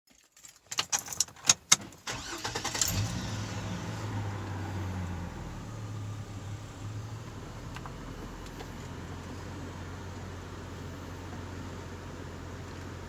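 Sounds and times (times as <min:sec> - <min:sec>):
car engine starting and idling: 0:01.0 - 0:13.0.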